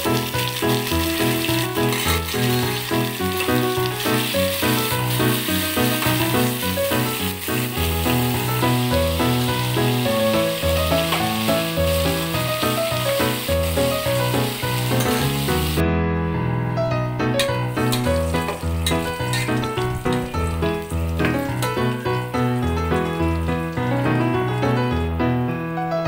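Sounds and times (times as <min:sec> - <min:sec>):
prawns sizzling in oil: 0:00.0 - 0:15.8, 0:17.4 - 0:24.2
background music: 0:00.0 - 0:26.0.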